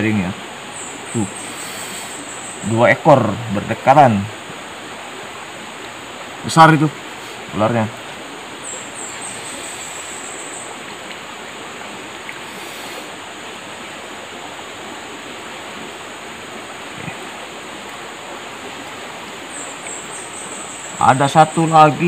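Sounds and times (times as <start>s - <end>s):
forest stream flowing: 0.0s - 22.0s
high insect drone: 0.0s - 22.0s.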